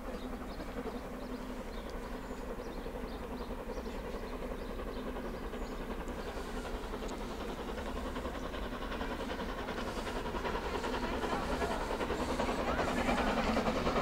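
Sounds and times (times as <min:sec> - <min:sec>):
distant steam locomotive rumble: 0:00.0 - 0:14.0.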